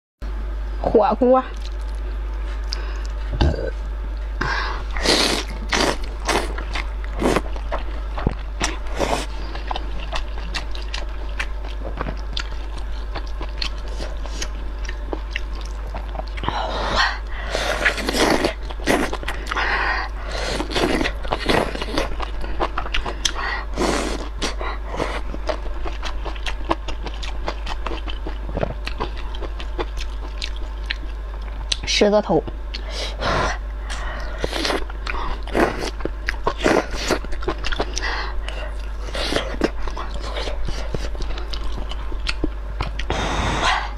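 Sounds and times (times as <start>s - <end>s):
steady low hum: 0.2s - 43.9s
wet chewing with mouth clicks: 1.5s - 3.3s, 5.0s - 31.9s, 33.9s - 43.9s.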